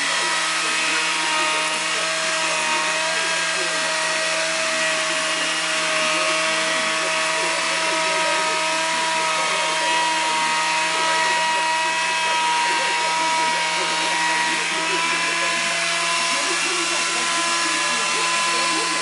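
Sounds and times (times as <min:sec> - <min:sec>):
wood lathe motor whine: 0:00.0 - 0:19.0.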